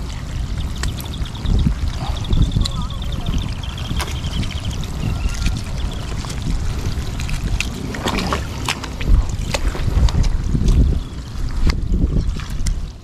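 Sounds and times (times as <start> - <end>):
light water splashes: 0.0 - 13.0
wind buffeting microphone: 0.0 - 13.0.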